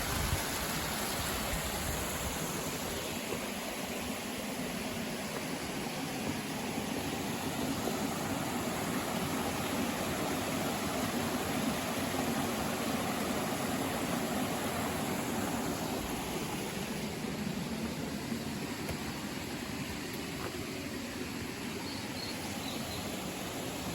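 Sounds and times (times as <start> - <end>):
stream water rushing: 0.0 - 23.9.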